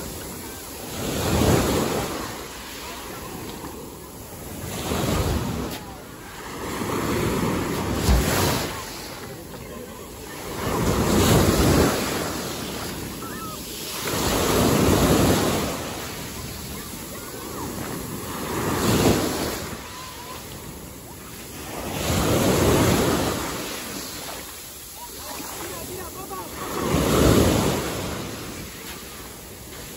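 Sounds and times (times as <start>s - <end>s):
sea waves breaking: 0.0s - 29.9s.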